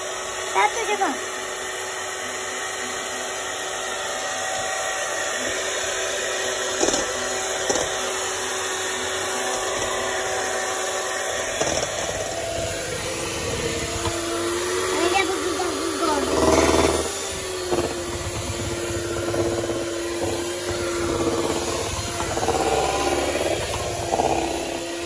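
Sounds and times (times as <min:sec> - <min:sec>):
electric hand mixer running: 0:00.0 - 0:25.0.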